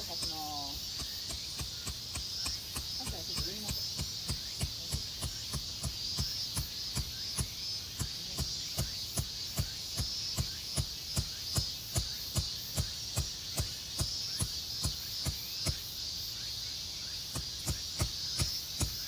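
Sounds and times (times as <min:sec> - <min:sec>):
low throbbing beat: 0:00.0 - 0:15.4
insects chirring: 0:00.0 - 0:19.0.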